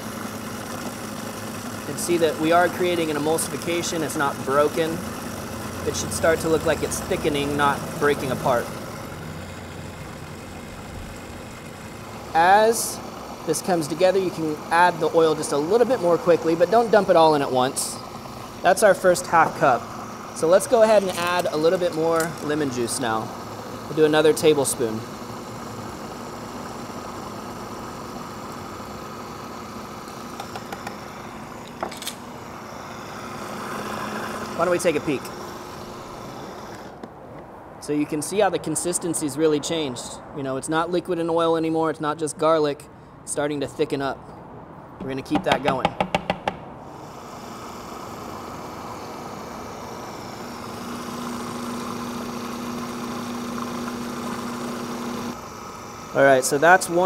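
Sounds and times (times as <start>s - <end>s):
food processor whirring: 0.0s - 37.1s, 46.9s - 57.0s.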